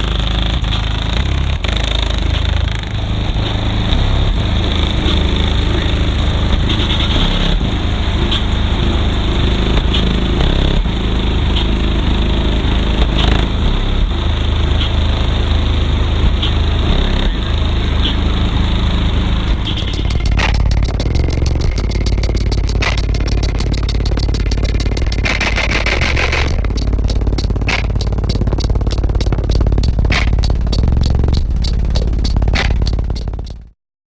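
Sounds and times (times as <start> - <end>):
fast rattle: 0.0 - 33.7
subwoofers playing heavy bass: 0.0 - 33.8.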